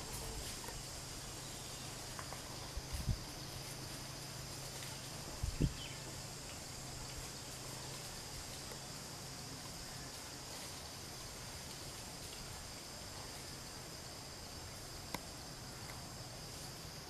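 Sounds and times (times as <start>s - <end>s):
faint high hiss: 0.0s - 17.0s.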